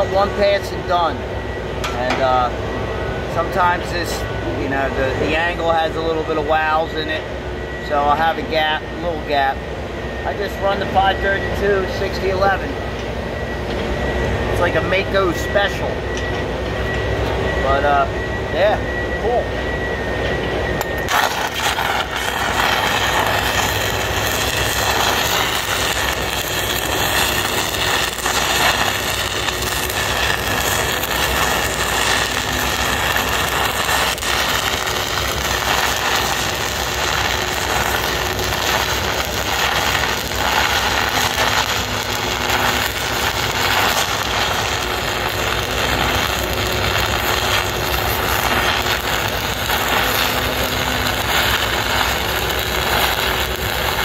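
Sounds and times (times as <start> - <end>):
welding arc crackling and sizzling: 0.0 - 9.6, 10.2 - 19.4, 20.0 - 54.0.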